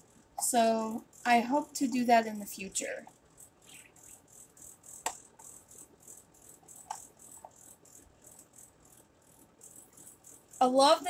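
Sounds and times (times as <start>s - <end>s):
rhythmic shaker hiss: 0.0s - 11.0s.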